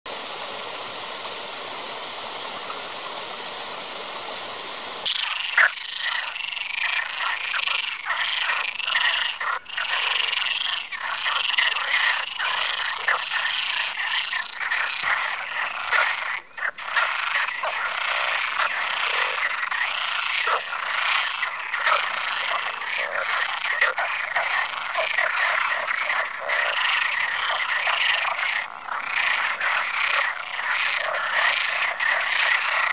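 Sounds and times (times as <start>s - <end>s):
frogs croaking: 0.1s - 32.9s
stream running over stones: 0.1s - 32.9s.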